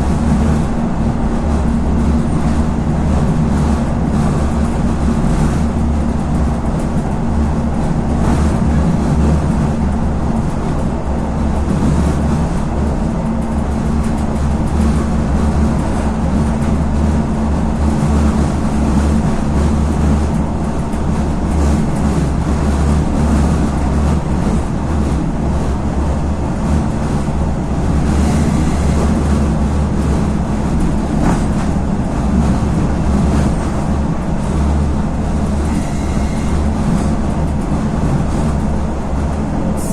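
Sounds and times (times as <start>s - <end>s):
diesel engine drone: 0.0s - 39.9s
train wheels rumbling on rail: 0.0s - 39.9s.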